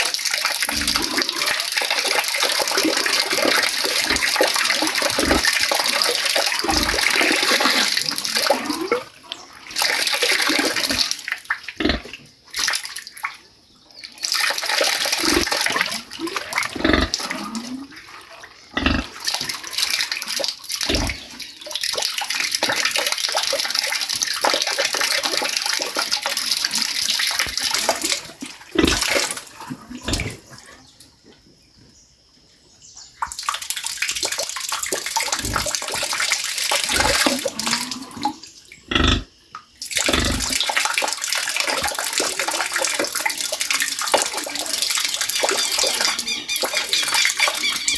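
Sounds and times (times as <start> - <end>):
water splashing: 0.0 - 30.8, 33.2 - 39.0, 39.8 - 47.9.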